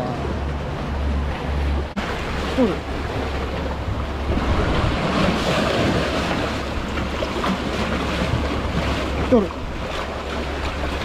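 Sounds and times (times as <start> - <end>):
seawater sloshing between concrete blocks: 0.0 - 11.0
wind buffeting microphone: 0.0 - 11.0.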